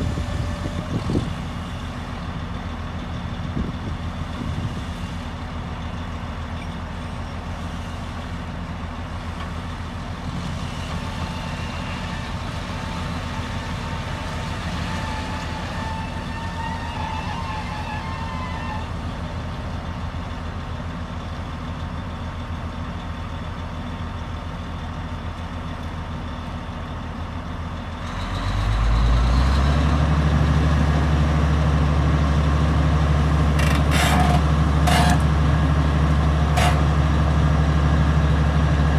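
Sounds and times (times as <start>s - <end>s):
diesel engine running and revving: 0.0s - 38.9s.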